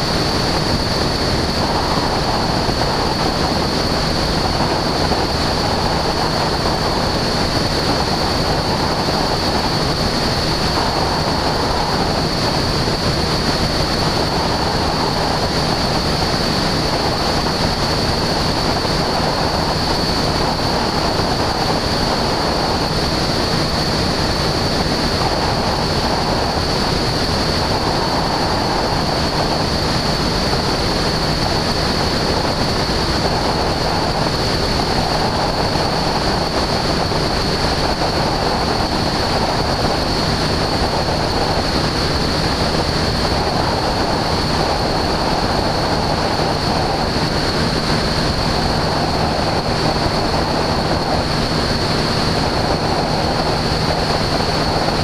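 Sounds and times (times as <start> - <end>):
aircraft engine drone: 0.0 - 55.0
wind rushing over microphone: 0.0 - 55.0.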